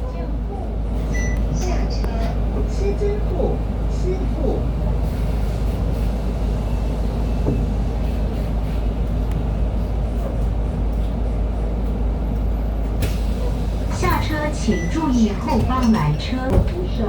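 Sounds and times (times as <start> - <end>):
bus road and chassis rumble: 0.0 - 17.0.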